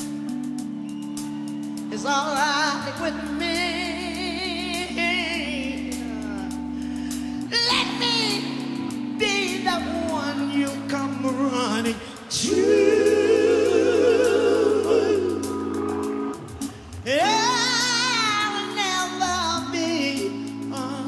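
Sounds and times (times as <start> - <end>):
song with singer: 0.0 - 21.0.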